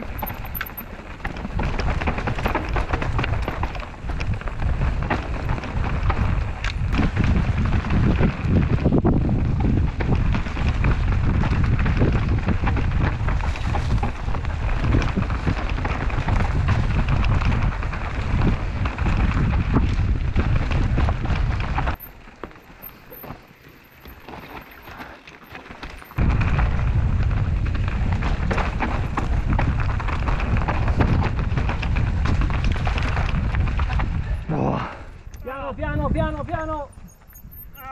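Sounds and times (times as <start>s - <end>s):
wind buffeting microphone: 0.0s - 22.0s, 26.1s - 37.9s
bike rattling over roots: 0.0s - 37.9s
bike tyre noise: 0.0s - 37.9s.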